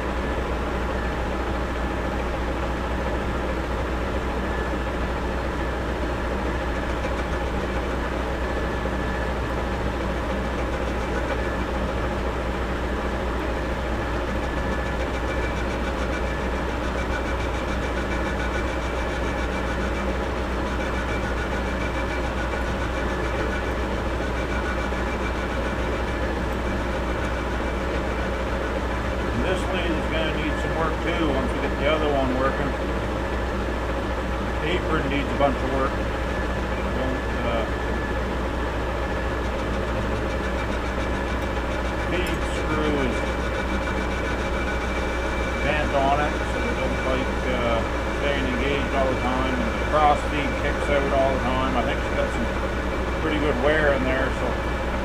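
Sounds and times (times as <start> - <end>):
metal lathe humming and whining: 0.0 - 55.0.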